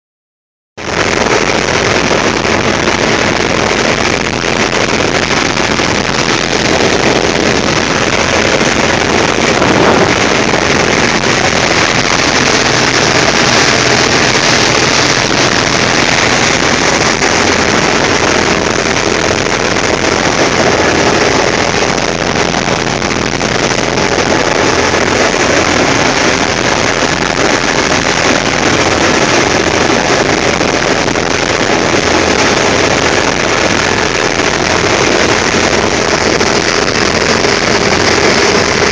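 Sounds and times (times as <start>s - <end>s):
combine harvester drone: 0.8s - 38.9s.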